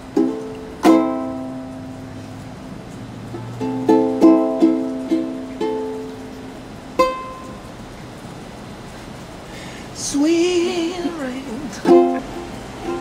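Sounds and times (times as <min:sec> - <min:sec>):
ukulele strumming: 0:00.0 - 0:07.8, 0:10.0 - 0:13.0.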